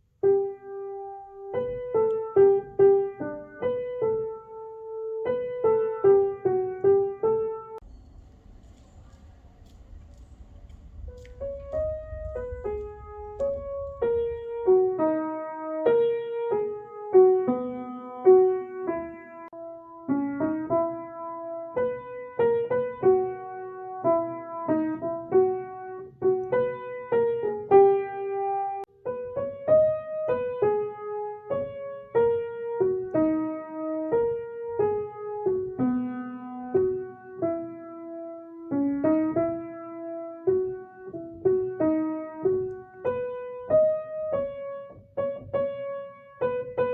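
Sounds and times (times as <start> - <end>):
solo piano melody: 0.0 - 46.9.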